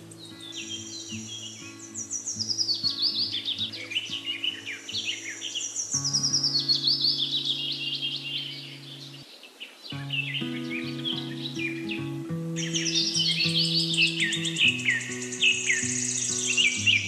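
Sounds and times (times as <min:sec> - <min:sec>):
rapid bird chirps: 0:00.0 - 0:17.0.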